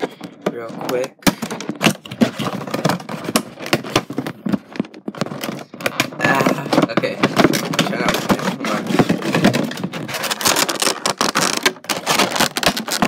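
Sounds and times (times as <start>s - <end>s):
box and plastic insert handled: 0.0s - 13.0s.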